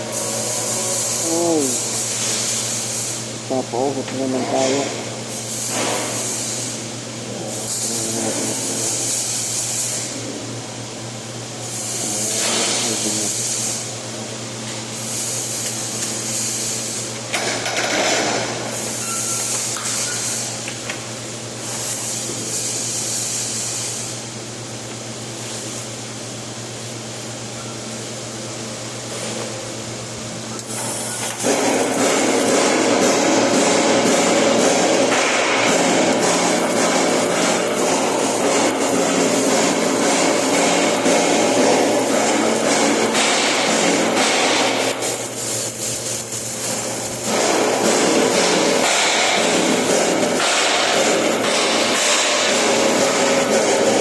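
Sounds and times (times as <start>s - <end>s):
welding arc crackling and sizzling: 0.0s - 27.4s, 28.0s - 54.0s
welding machine electrical hum: 0.0s - 54.0s.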